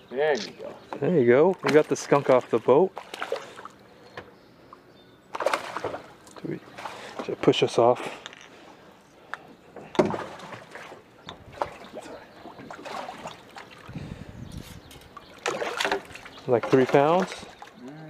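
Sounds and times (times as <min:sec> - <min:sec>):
water sloshing against boat: 0:00.4 - 0:18.0.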